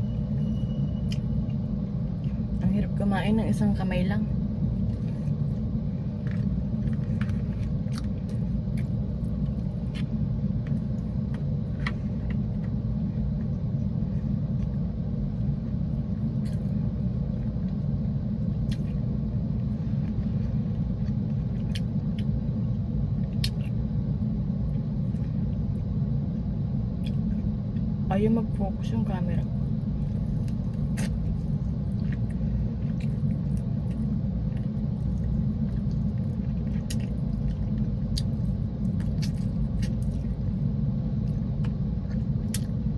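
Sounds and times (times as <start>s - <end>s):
faint clicks and rustles of food: 0.2s - 42.9s.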